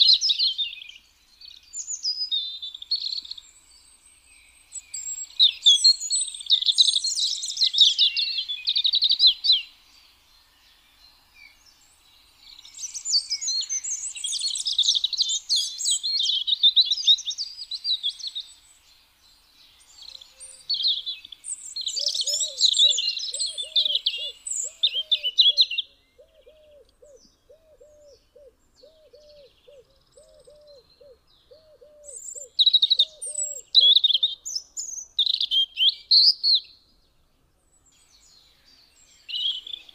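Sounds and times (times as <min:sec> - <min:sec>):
robin singing: 0:00.0 - 0:39.9.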